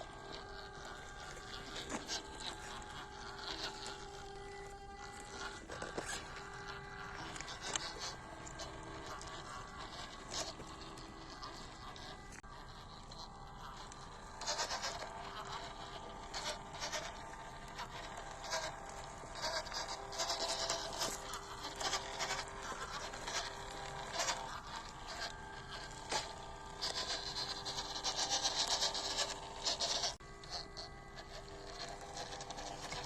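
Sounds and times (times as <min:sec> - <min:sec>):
faint electric motor whine: 0:00.0 - 0:33.0.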